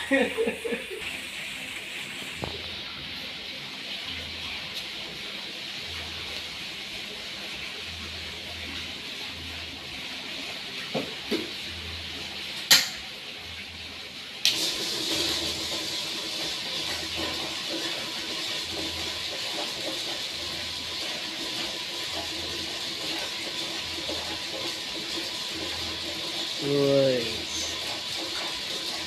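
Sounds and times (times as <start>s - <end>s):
popcorn machine humming: 0.0s - 12.9s, 14.4s - 29.0s.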